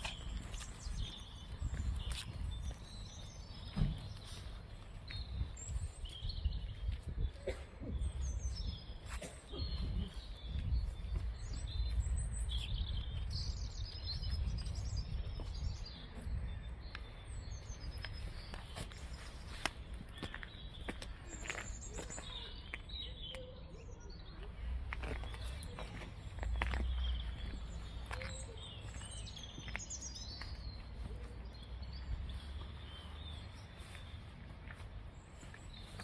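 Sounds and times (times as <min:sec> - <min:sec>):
small songbirds chirping: 0:00.0 - 0:36.0.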